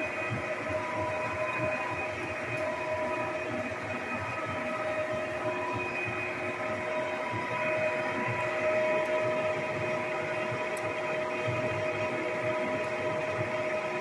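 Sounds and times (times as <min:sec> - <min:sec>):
lathe whine and rumble: 0:00.0 - 0:14.0.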